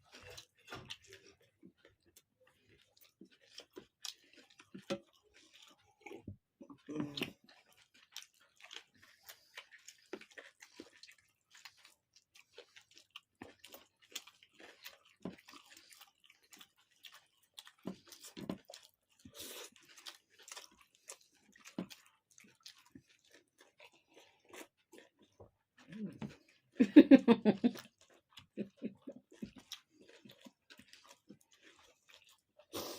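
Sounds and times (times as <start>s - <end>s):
people chewing food: 0.0s - 32.9s.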